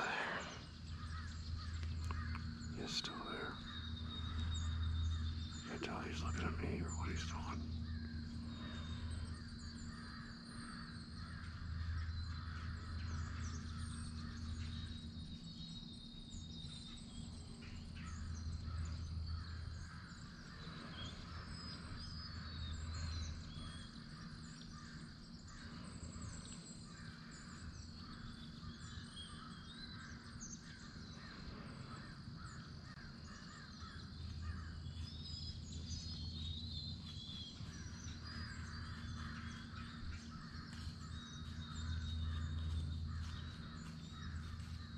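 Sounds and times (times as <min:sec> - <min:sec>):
crow-like caws: 0:00.0 - 0:07.2, 0:07.8 - 0:15.1, 0:18.0 - 0:35.1, 0:37.6 - 0:44.9
birds chirping: 0:00.0 - 0:44.9.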